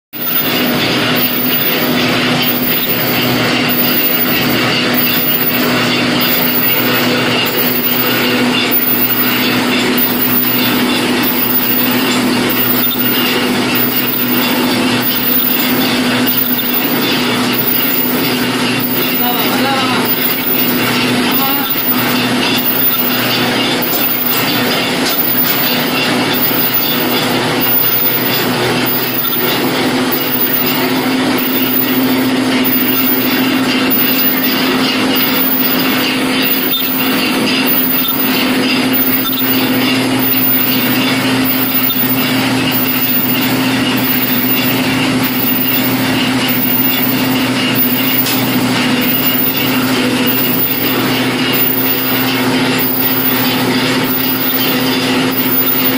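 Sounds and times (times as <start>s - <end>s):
steady machine hum: 0.0s - 55.9s
printing machine running: 0.2s - 55.9s.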